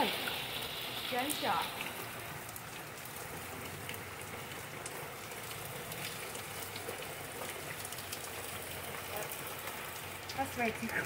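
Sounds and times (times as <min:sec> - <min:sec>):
heavy rain hissing: 0:00.0 - 0:11.0
sharp raindrop hits: 0:00.0 - 0:11.0.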